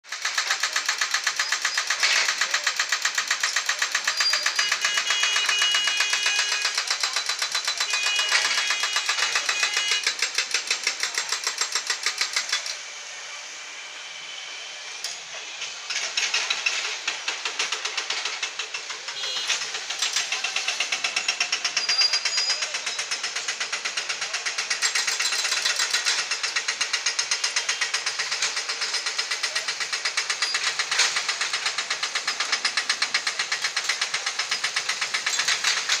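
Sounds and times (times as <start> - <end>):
hydraulic breaker hammering ground: 0.1 - 12.8, 15.9 - 36.0.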